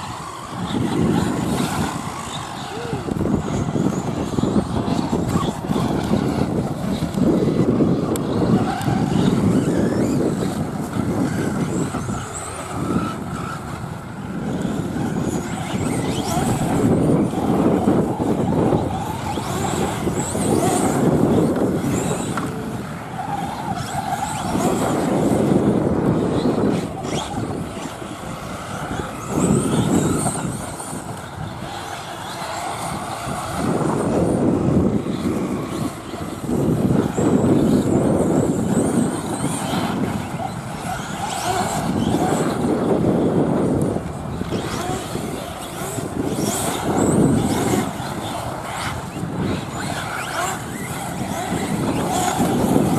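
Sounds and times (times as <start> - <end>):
rc car motors whining: 0.0 - 52.9
tyres on loose dirt: 0.0 - 52.9.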